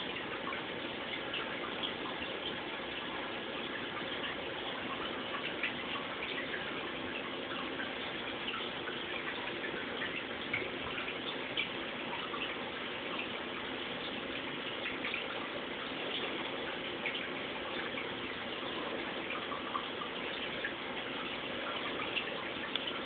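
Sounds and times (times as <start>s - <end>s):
aquarium filter bubbling: 0.0s - 23.0s.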